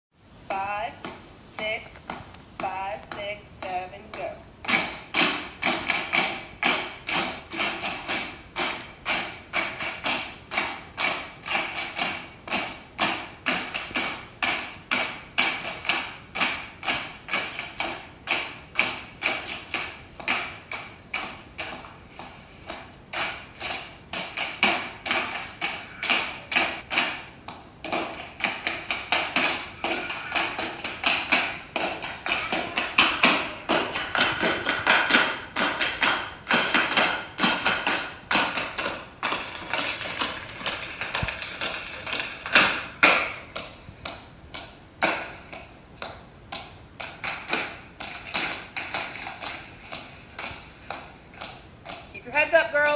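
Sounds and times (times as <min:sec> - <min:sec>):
tap shoes striking floor: 0:01.0 - 0:52.9.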